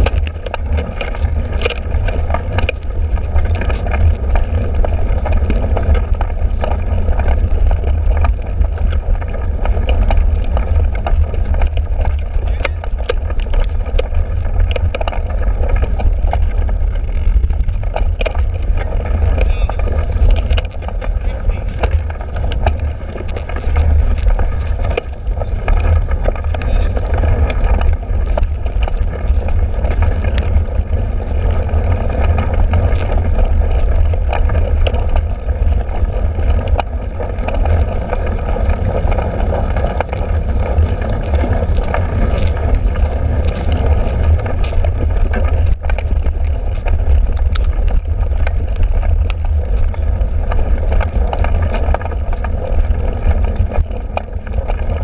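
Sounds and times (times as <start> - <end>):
bike rattling and knocking: 0.0 - 55.0
wind and tyre rumble: 0.0 - 55.0.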